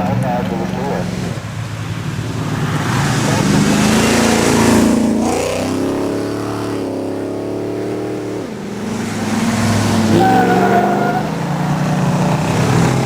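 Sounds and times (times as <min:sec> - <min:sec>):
racing car engine accelerating: 0:00.0 - 0:13.0.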